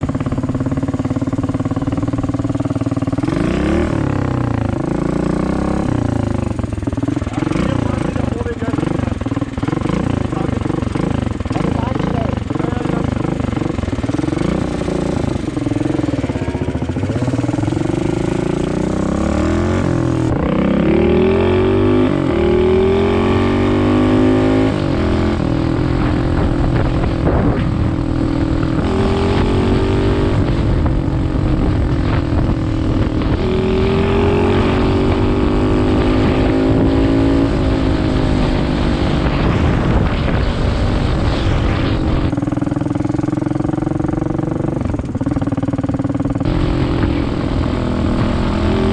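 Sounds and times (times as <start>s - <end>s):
small motorbike engine revving: 0.0s - 48.9s.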